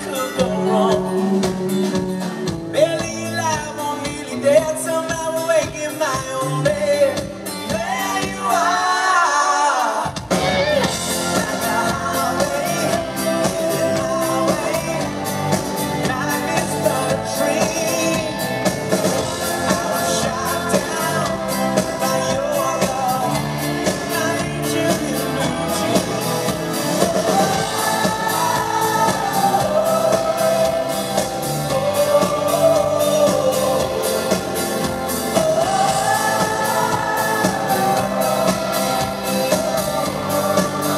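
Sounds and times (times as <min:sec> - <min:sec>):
bass guitar: 0:00.0 - 0:09.2, 0:10.1 - 0:40.9
acoustic guitar: 0:00.0 - 0:40.9
drum kit: 0:00.0 - 0:40.9
person singing: 0:00.0 - 0:40.9.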